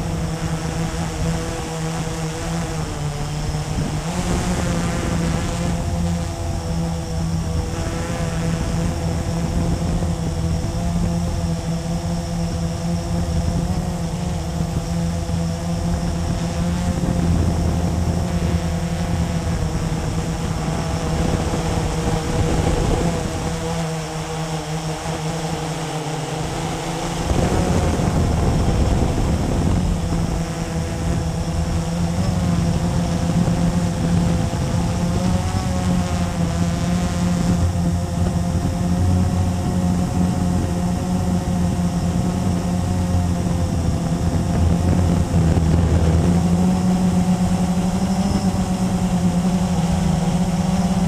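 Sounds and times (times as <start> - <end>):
quadcopter motors buzzing: 0.0 - 51.0.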